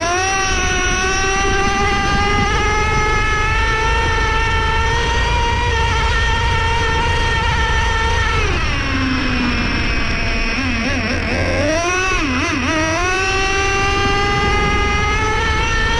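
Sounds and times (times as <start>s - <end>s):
nitro engine high-pitched whine: 0.0s - 15.9s.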